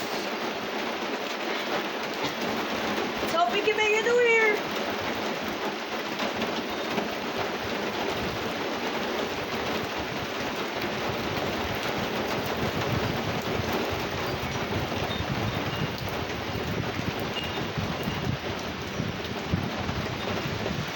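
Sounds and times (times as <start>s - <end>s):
steady rain: 0.0s - 20.9s.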